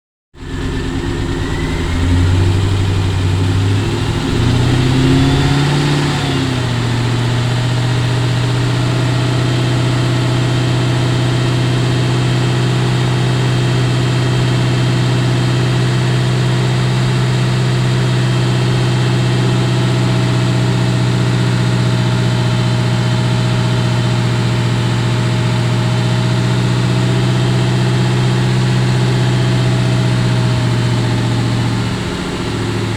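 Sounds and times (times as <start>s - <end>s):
car engine revving and idling: 0.4s - 32.9s.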